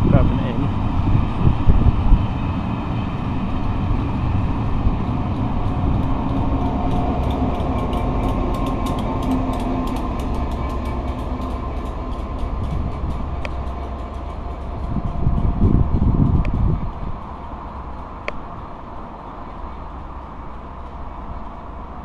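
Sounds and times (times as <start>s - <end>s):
train rumble: 0.0s - 22.0s
wheels clicking over rail joints: 2.4s - 22.0s.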